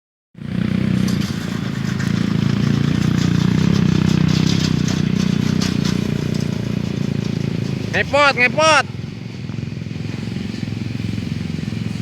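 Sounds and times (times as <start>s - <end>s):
small tractor engine running: 0.4s - 12.0s.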